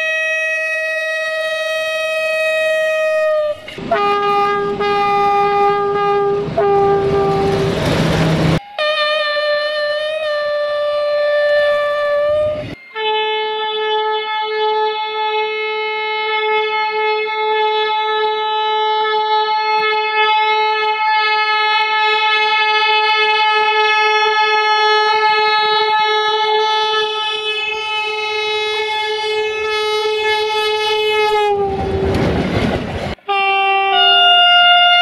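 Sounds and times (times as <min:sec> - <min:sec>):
locomotive air horn: 0:00.0 - 0:32.3, 0:33.1 - 0:35.0.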